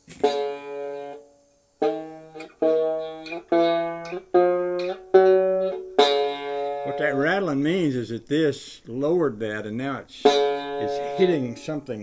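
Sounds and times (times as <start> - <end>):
banjo chords strummed: 0.0 - 8.2, 9.0 - 12.0.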